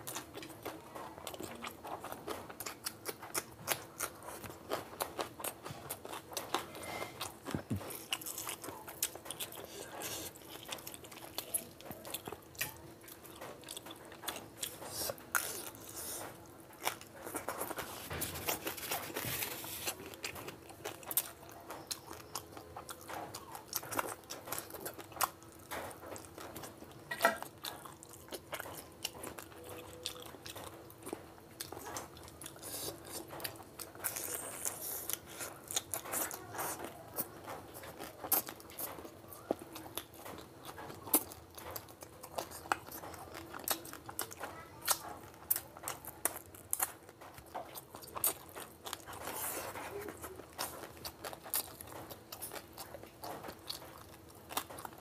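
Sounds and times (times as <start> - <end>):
person chewing with wet smacks: 0.0 - 55.0.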